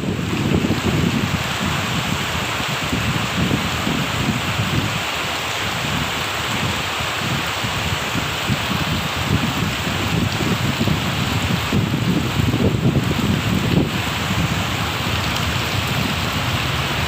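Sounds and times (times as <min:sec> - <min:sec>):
heavy rain falling: 0:00.0 - 0:17.0
wind buffeting microphone: 0:00.0 - 0:17.0.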